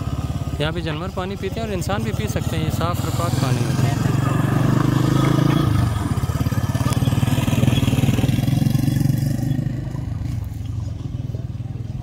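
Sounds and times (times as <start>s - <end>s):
motorcycle passing by: 0.0s - 12.0s.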